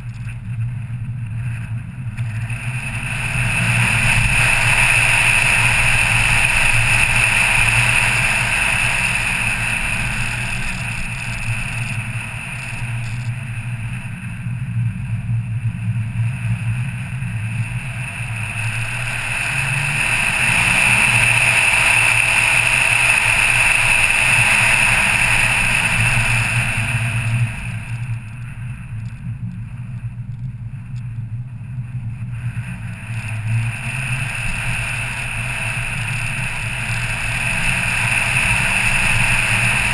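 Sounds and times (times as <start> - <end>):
car engine: 0.0 - 39.9
road noise: 0.0 - 39.9
wind noise: 0.0 - 39.9.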